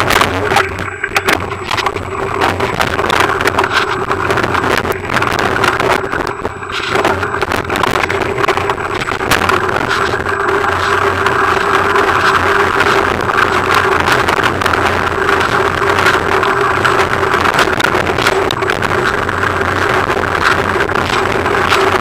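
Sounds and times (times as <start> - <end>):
bike rattling and knocking: 0.0 - 22.0
steady buzz: 0.0 - 22.0
wind on microphone: 0.0 - 22.0.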